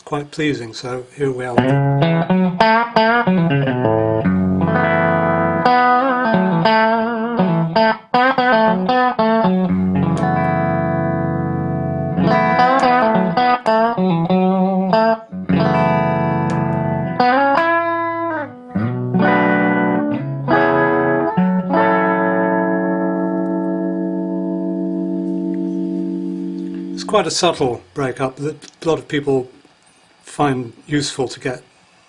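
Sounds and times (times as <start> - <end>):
electric guitar playing: 1.6 - 28.2.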